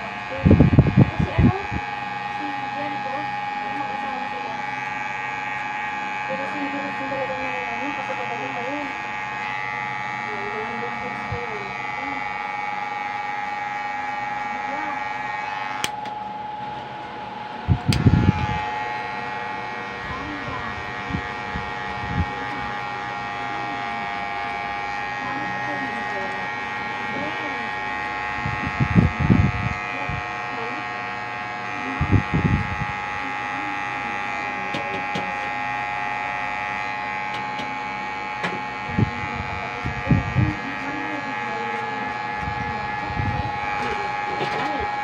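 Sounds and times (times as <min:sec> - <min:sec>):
electric hair clipper buzzing: 0:00.0 - 0:45.0.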